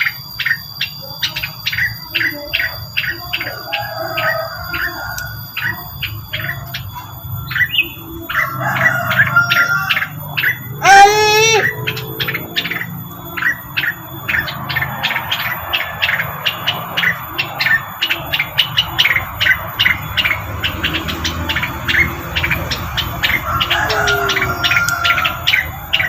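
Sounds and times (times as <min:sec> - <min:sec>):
bird chip notes: 0:00.0 - 0:26.0.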